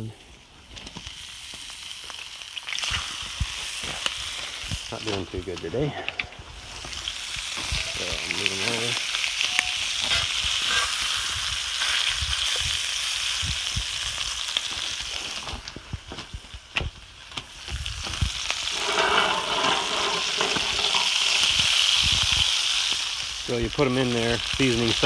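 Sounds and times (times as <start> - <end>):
fish sizzling in a pan: 0.0 - 25.0.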